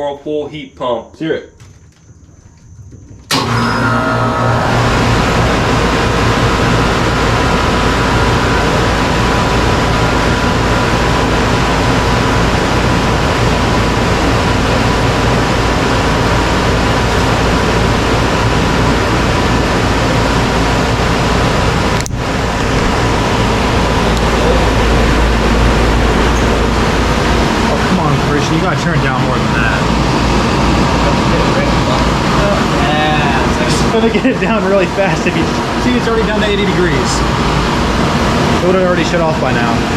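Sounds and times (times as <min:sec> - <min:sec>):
compressor hum: 0:00.0 - 0:39.9
condenser fan rushing: 0:01.4 - 0:39.9
steady tone: 0:03.3 - 0:39.9.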